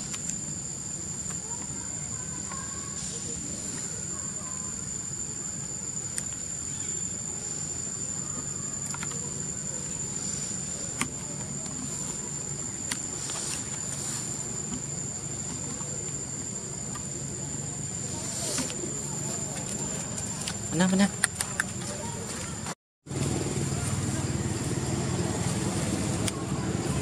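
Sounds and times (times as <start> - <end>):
insect chorus whining: 0.0 - 27.0.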